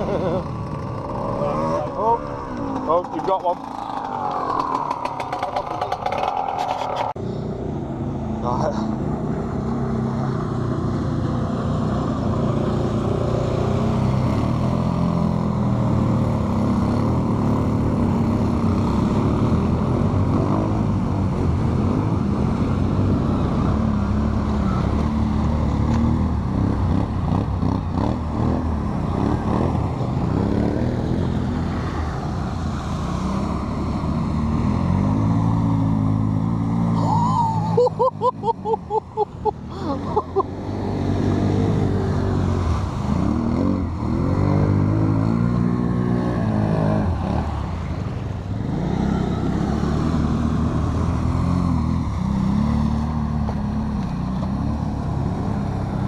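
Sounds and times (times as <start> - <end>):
quad bike engines revving: 0.0 - 56.0.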